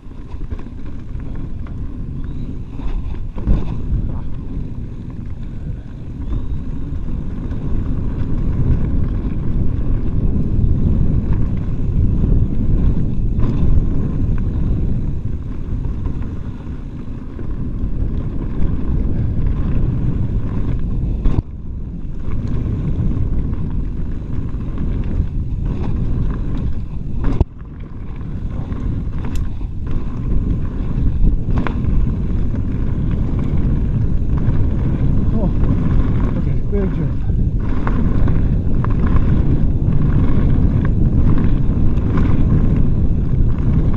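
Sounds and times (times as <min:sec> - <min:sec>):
bike tyres rattling on trail: 0:00.0 - 0:43.9
wind rumble on microphone: 0:00.0 - 0:43.9.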